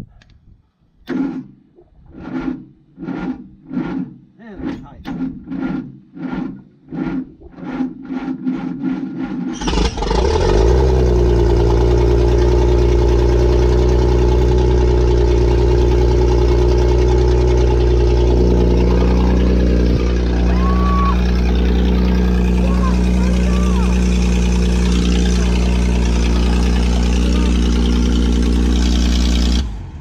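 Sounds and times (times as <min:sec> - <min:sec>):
backhoe engine cranking and running: 0:01.0 - 0:30.0.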